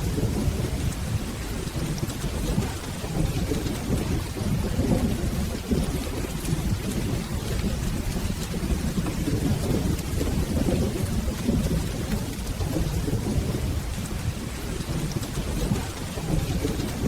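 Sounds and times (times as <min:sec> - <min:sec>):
rolling thunder: 0:00.0 - 0:17.0
steady rain: 0:00.0 - 0:17.0.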